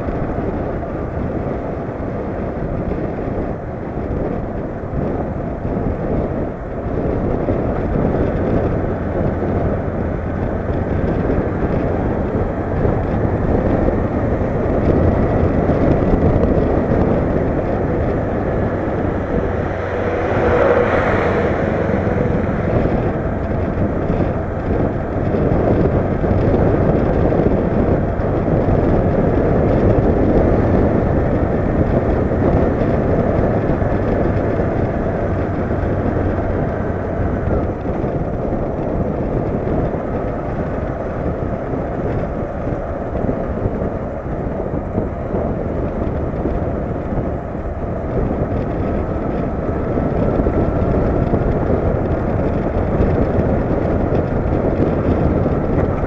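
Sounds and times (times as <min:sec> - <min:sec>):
motorcycle engine running: 0:00.0 - 0:56.0
wind rushing over camera: 0:00.0 - 0:56.0.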